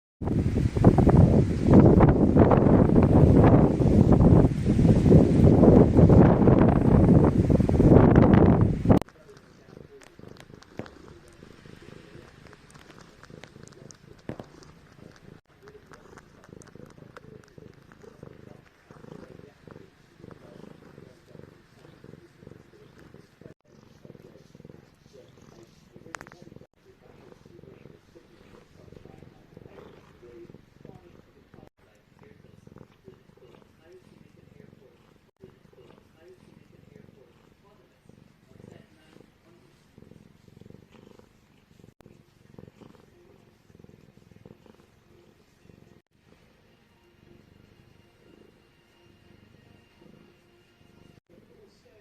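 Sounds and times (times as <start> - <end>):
cat purring: 0.3 - 52.0.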